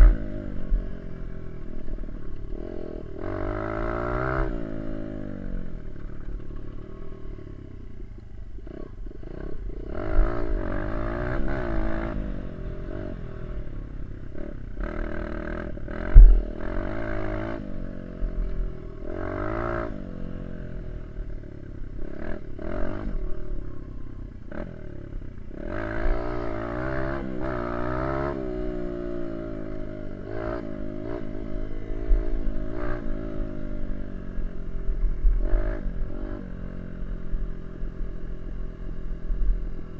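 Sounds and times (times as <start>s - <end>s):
dirt bike engine revving: 0.0s - 7.3s, 8.6s - 24.8s, 25.5s - 39.7s.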